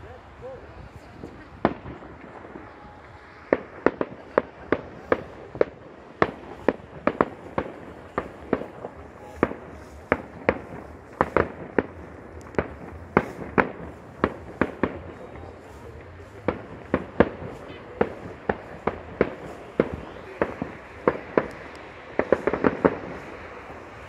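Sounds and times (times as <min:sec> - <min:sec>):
fireworks bangs: 0:00.7 - 0:24.0.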